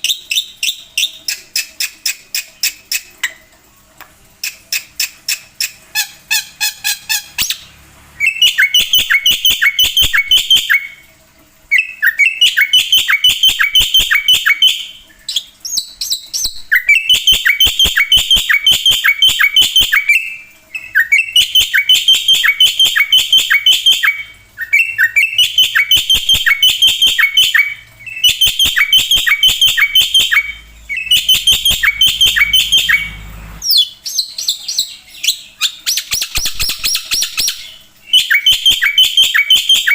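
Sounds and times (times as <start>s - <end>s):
bird singing rapid repeated notes: 4.4s - 11.0s, 11.7s - 39.9s.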